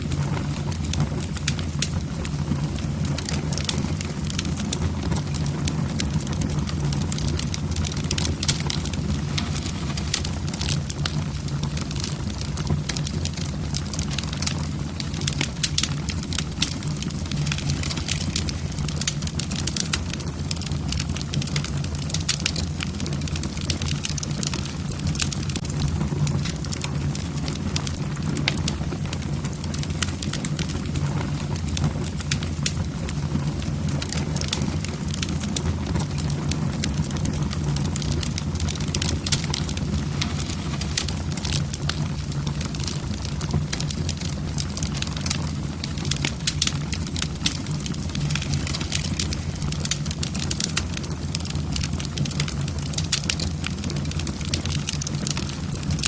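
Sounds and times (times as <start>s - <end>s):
logs crackling and popping: 0.0s - 56.0s
low rumble of flames: 0.0s - 56.0s.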